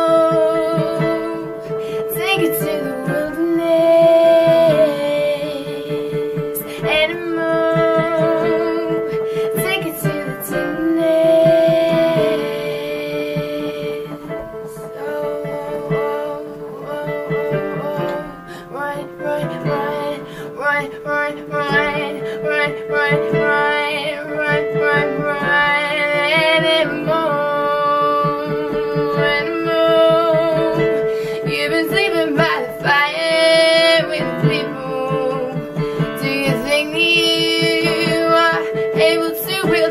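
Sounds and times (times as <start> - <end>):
acoustic guitar: 0.0 - 39.9
woman singing: 0.0 - 39.9.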